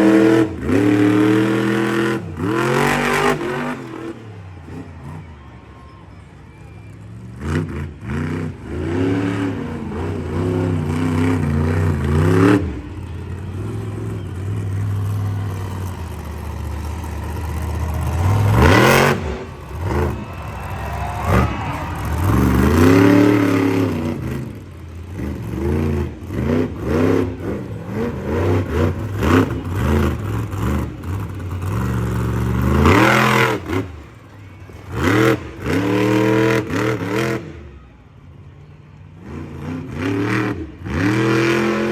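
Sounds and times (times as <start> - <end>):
monster truck engine revving: 0.0 - 41.9.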